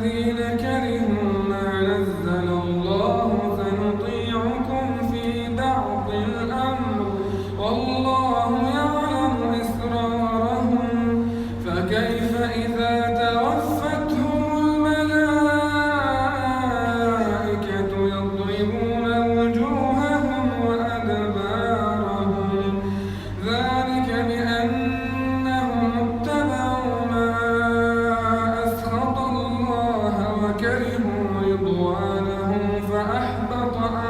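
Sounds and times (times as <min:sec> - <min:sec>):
man chanting melodically: 0:00.0 - 0:34.0
steady low hum: 0:00.0 - 0:34.0.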